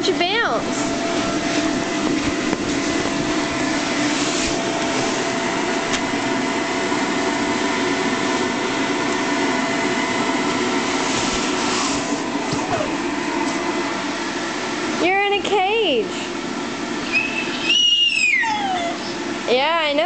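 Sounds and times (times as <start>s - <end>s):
electric air blower humming: 0.0s - 20.0s.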